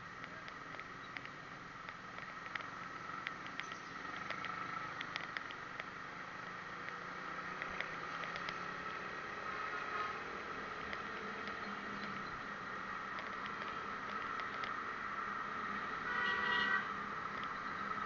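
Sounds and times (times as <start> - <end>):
muffled vehicle driving noise: 0.0 - 18.0
small clicks and rattles: 0.1 - 14.8.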